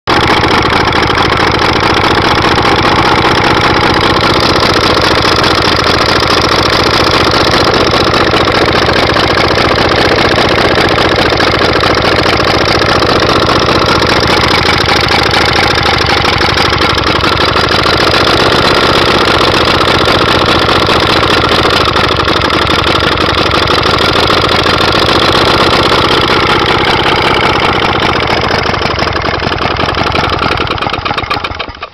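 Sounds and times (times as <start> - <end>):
two-stroke boat engine running: 0.1 - 31.9.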